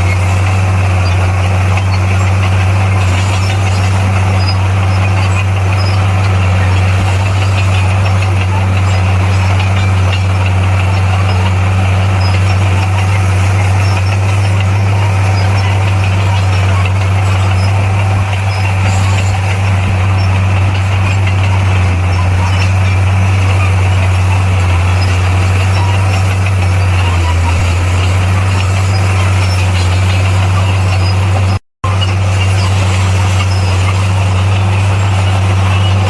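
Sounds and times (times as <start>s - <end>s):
diesel machine engine droning: 0.0s - 36.0s.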